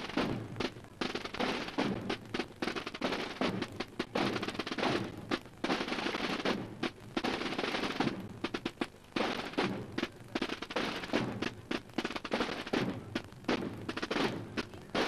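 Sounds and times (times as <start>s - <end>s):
marching drum rolls and strokes: 0.0s - 15.0s.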